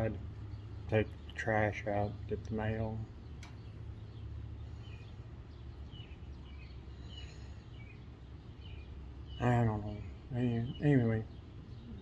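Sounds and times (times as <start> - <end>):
faint bird chirps: 0.0 - 12.0
low background rumble: 0.0 - 12.0.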